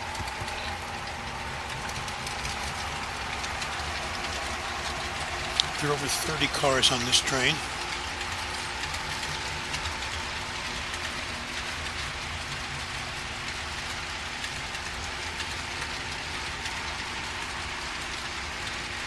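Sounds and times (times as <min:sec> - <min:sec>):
wheels rolling on track: 0:00.0 - 0:06.6, 0:07.3 - 0:19.0
model train engine rumble: 0:00.0 - 0:19.0.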